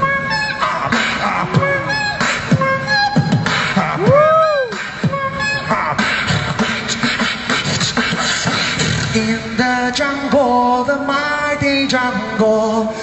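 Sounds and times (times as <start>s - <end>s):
amplified beatboxing: 0.0s - 13.0s.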